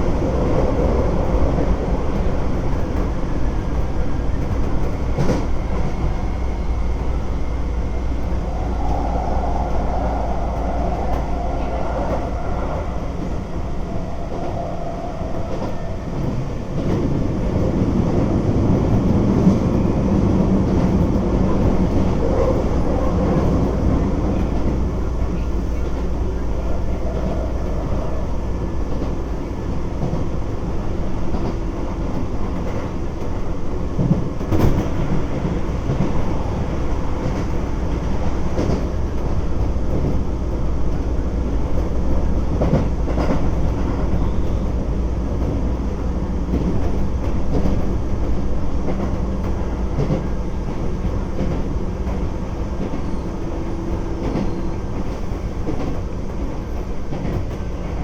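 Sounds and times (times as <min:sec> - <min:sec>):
rail joints clacking: 0:00.0 - 0:58.0
train wheels rumbling on rail: 0:00.0 - 0:58.0.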